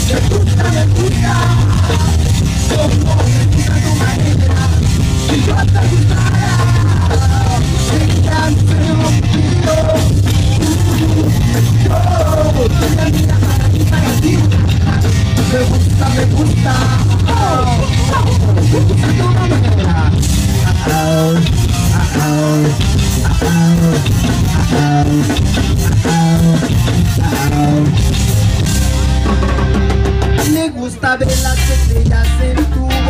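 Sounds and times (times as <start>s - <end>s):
bass guitar: 0.0s - 33.0s
drum kit: 0.0s - 33.0s
electric guitar: 0.0s - 33.0s.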